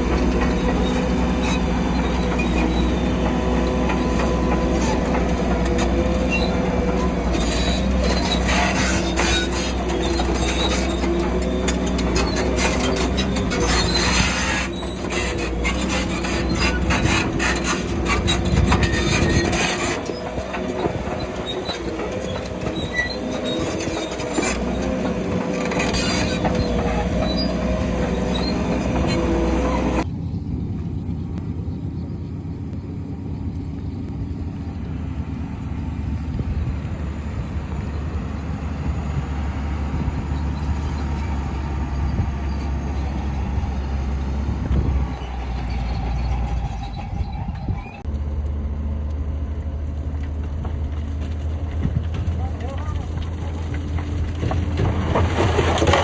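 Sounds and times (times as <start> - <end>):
bulldozer tracks squealing and clanking: 0.0 - 56.0
diesel engine rumbling: 0.0 - 56.0.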